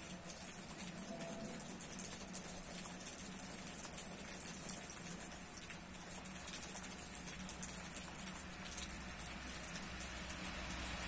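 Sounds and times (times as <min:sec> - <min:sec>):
hard rain on leafy tree: 0:00.0 - 0:11.0.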